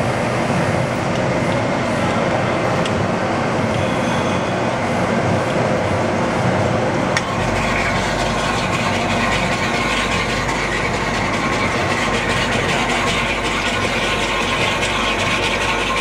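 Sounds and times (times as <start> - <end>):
mixer machine humming and whirring: 0.0 - 16.0.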